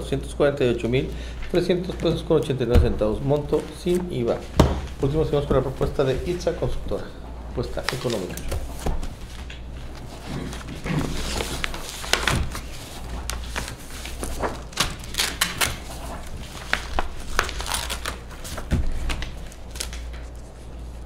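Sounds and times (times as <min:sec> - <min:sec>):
steady low hum: 0:00.0 - 0:21.0
paper rustling: 0:01.0 - 0:07.0, 0:07.6 - 0:21.0.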